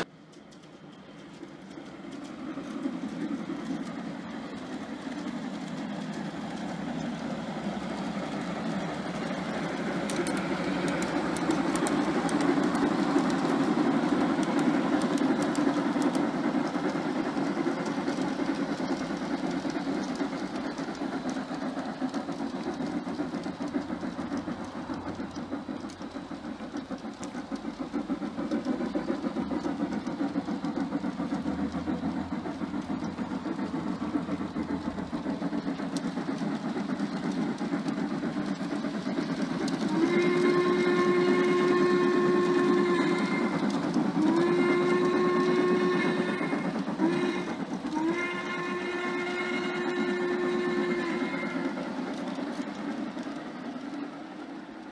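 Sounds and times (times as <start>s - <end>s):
model train rolling on track: 0.0s - 54.9s.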